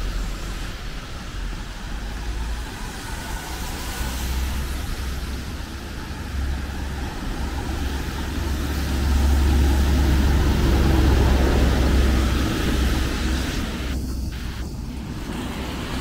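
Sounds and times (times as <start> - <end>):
engine rumble: 0.0 - 16.0
tyres hissing on wet road: 0.0 - 16.0.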